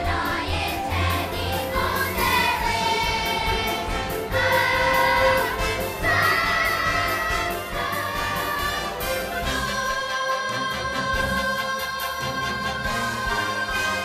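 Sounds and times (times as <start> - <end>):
children's choir singing: 0.0 - 14.0
music with steady beat: 0.0 - 14.0.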